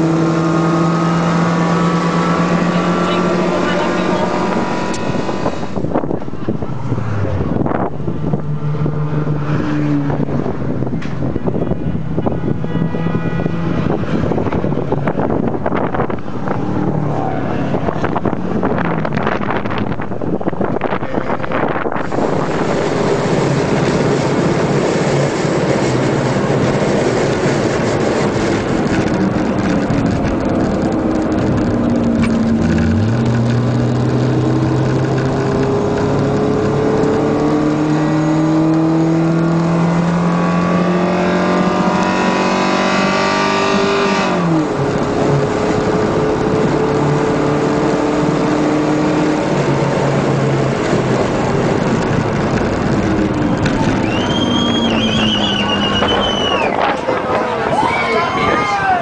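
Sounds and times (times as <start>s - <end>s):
race car engine revving: 0.0s - 57.8s
wind and road noise: 0.0s - 59.0s.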